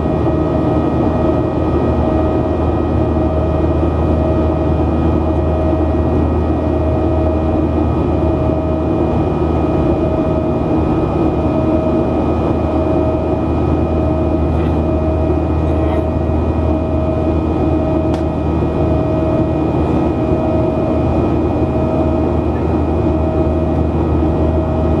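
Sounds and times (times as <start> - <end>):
jet engine drone in cabin: 0.0 - 25.0.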